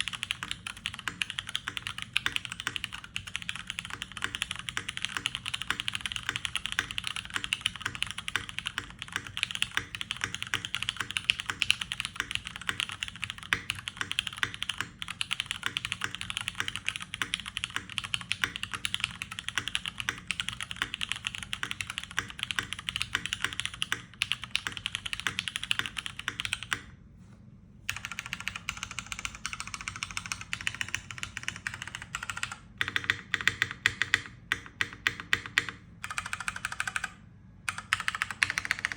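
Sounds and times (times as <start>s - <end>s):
fast typing on mechanical keyboard: 0.0s - 26.9s, 27.9s - 38.9s.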